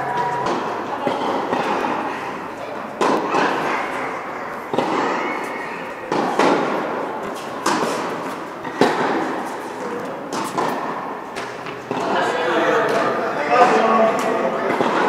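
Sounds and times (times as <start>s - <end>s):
tennis ball hits and bounces: 0.0s - 15.0s.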